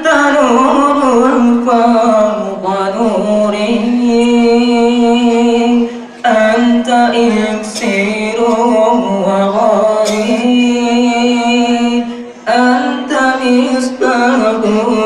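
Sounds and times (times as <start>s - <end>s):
unaccompanied devotional chant: 0.0s - 15.0s.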